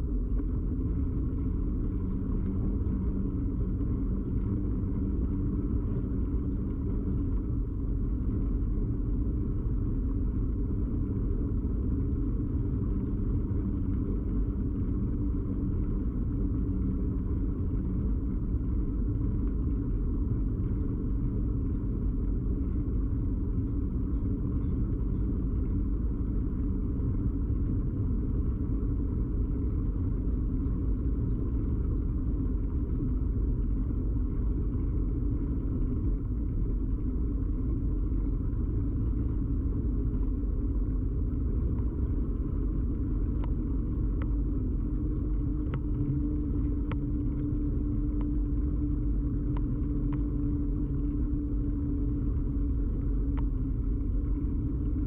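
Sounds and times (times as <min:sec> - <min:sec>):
bicycle ride rumble: 0:00.0 - 0:55.0
low steady hum: 0:00.0 - 0:55.0.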